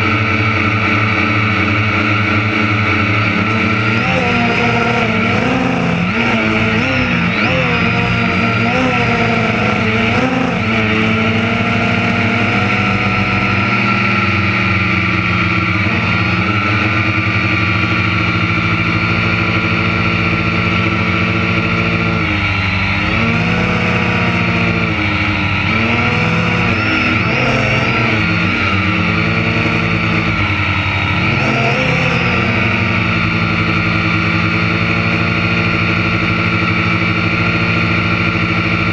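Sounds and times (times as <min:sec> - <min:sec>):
harvester engine running: 0:00.0 - 0:38.9.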